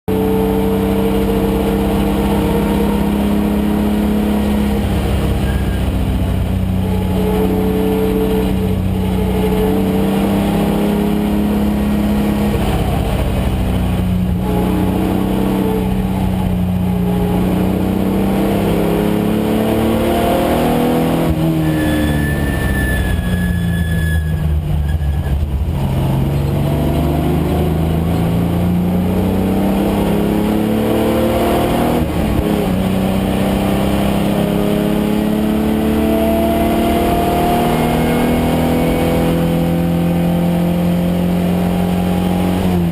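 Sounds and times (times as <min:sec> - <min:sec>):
car engine revving hard: 0:00.1 - 0:23.5, 0:25.4 - 0:42.9.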